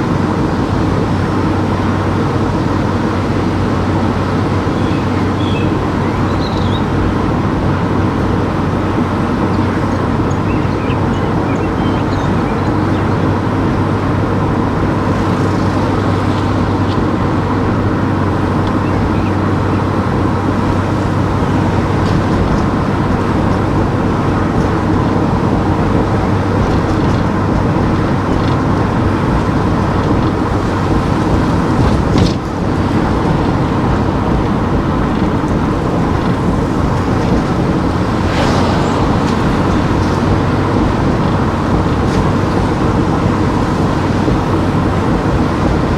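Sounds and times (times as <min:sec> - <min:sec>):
car engine hum: 0:00.0 - 0:45.9
tyre and road noise: 0:00.0 - 0:45.9.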